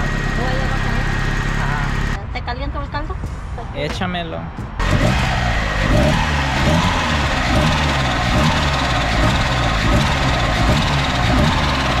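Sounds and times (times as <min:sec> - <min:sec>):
car engine idling: 0:00.0 - 0:02.3, 0:04.6 - 0:12.0.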